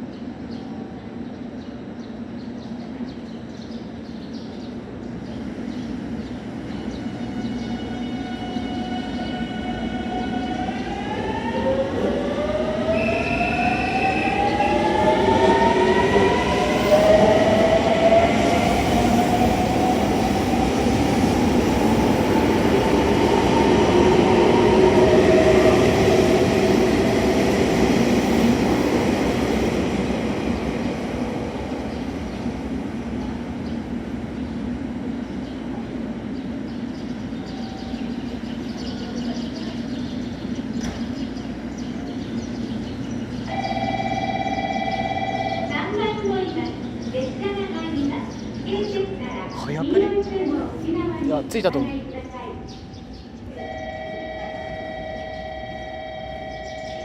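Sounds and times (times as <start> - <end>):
rail running noise: 0.0 - 57.0.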